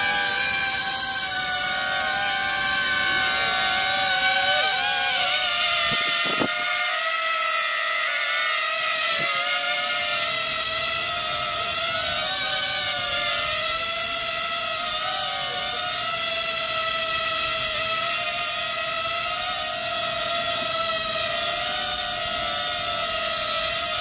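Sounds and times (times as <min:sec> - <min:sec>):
quadcopter propellers whining: 0:00.0 - 0:24.0.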